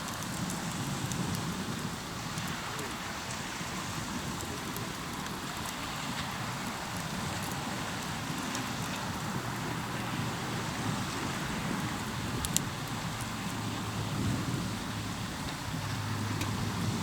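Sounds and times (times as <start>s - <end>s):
campfire crackling: 0.0s - 17.0s
fire pops: 0.0s - 17.0s.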